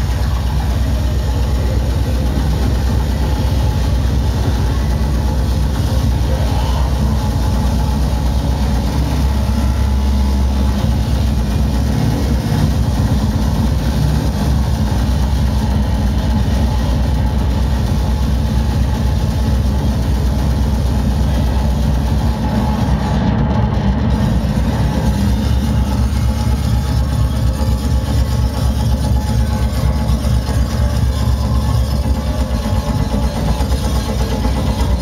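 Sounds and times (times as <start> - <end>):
distorted electronic dance music: 0.0 - 35.0.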